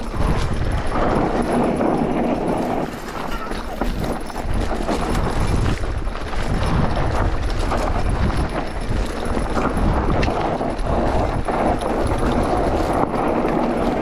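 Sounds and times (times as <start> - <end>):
bike rattling over bumps: 0.0 - 14.0
bike tyres crunching over dirt: 0.0 - 14.0.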